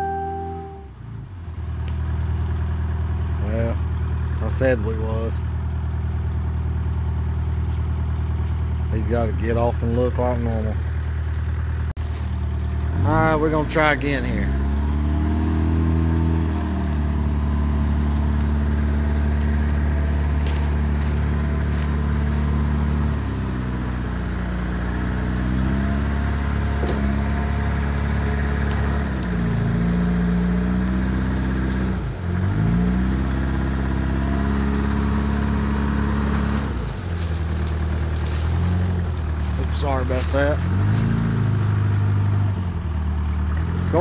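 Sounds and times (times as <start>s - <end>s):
diesel engine under load: 0.0s - 44.0s.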